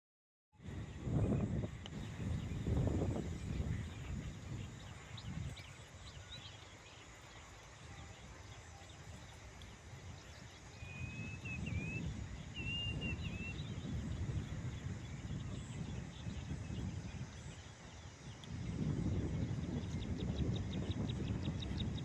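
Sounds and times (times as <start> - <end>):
small birds chirping: 0.6 - 22.0.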